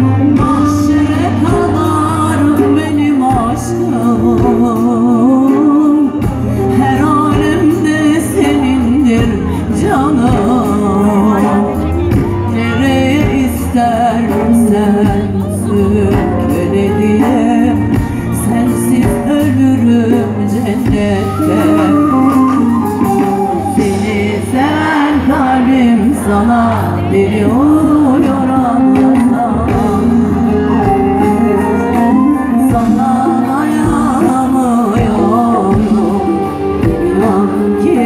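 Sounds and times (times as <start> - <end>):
live backing music with bass: 0.0 - 38.0
woman singing into microphone: 0.0 - 38.0.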